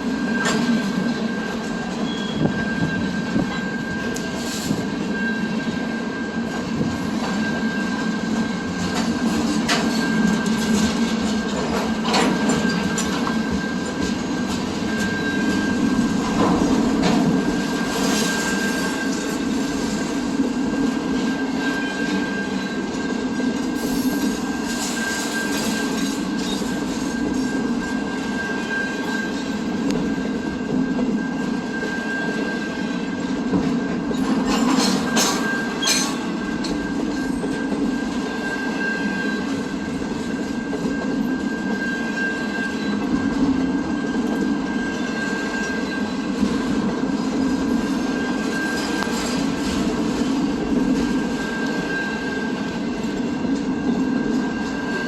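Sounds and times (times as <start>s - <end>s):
high ringing tone: 0.0s - 55.0s
train wheels rumbling: 0.0s - 55.0s.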